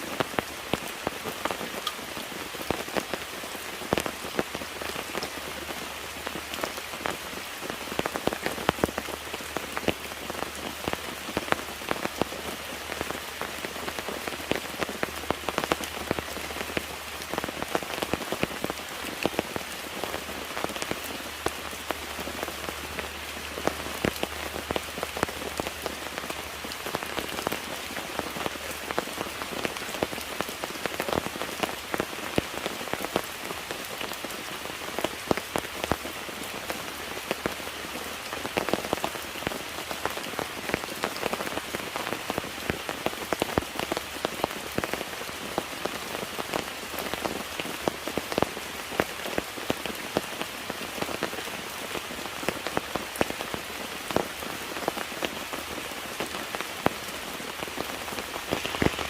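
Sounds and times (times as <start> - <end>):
steady rain falling: 0.0 - 59.0
raindrops tapping on a surface: 0.1 - 59.0.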